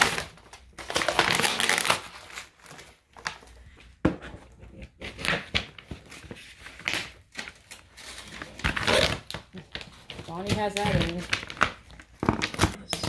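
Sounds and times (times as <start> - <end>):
paper tearing and crinkling: 0.0 - 3.3, 5.0 - 13.0.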